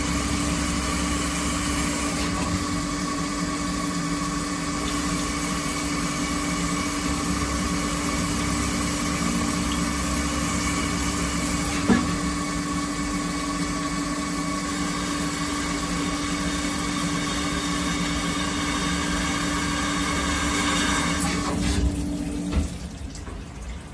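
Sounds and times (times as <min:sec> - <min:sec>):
milling machine spindle whine: 0:00.0 - 0:21.2.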